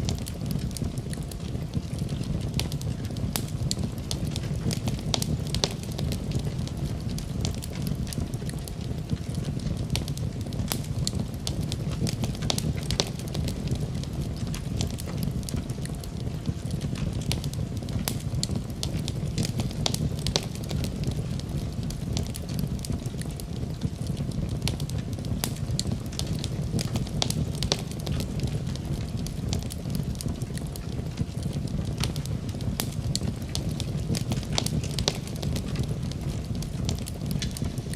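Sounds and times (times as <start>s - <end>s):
burning wood crackling: 0.0s - 37.9s
low rumble of flames: 0.0s - 37.9s.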